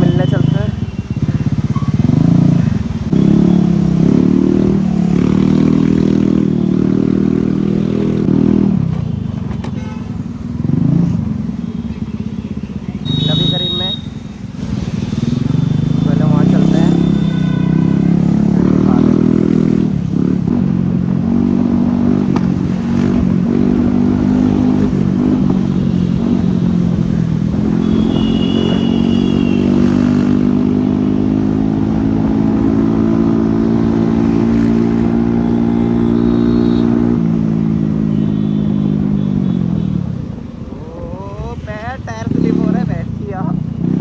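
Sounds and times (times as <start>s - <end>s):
motorcycle engine running: 0.0s - 9.4s, 10.2s - 44.0s.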